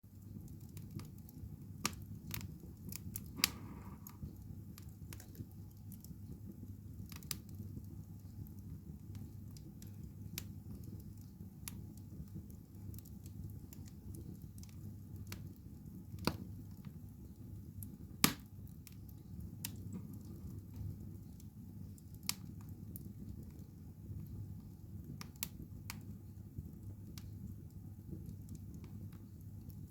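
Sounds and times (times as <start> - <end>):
wood fire crackling and popping: 0.1 - 29.9.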